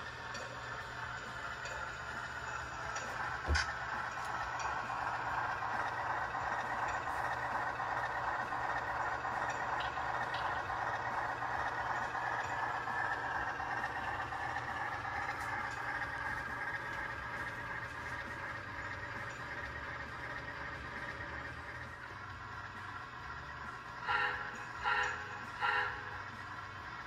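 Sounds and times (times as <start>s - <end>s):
model locomotive engine idling: 0.0s - 27.0s.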